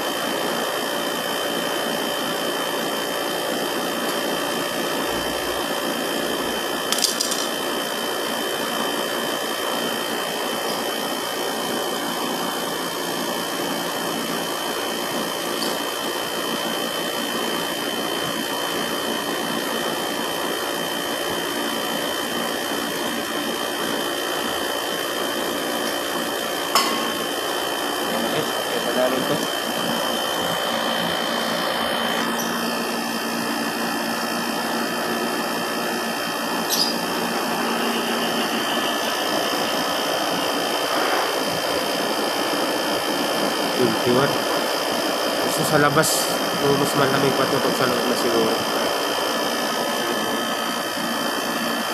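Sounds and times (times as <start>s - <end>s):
air conditioner unit humming: 0.0s - 51.9s.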